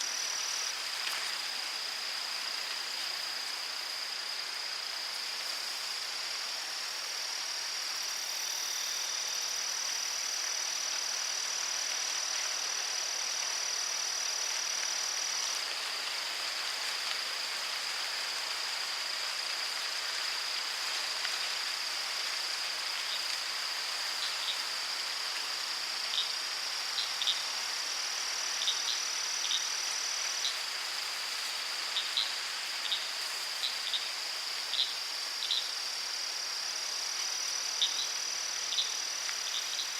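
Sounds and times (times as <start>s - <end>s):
insect trill: 0.0s - 39.9s.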